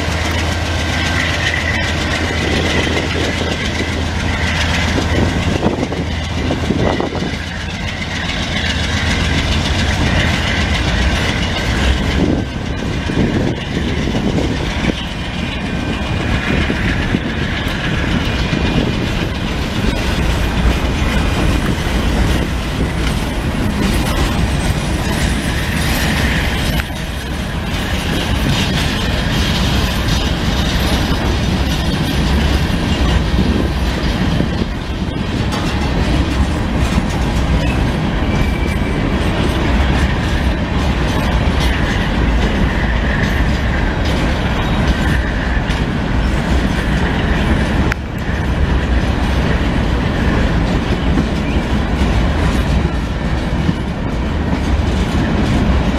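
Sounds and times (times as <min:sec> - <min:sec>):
train wheels clattering over rails: 0:00.0 - 0:55.9.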